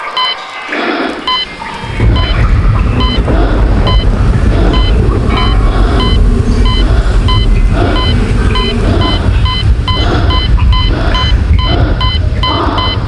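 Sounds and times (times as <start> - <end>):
short electronic beeps: 0.0 - 0.4, 1.3 - 2.4, 3.0 - 4.1, 4.7 - 13.0
rough noisy layer: 0.7 - 13.0
loud steady low rumble: 1.6 - 13.0.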